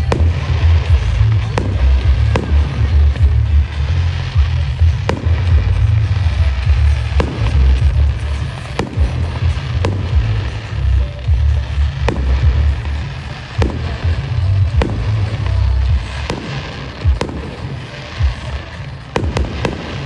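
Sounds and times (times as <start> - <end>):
crackling hiss: 0.0 - 20.0
firework bangs: 0.0 - 20.0
loud music with heavy bass: 0.0 - 20.0.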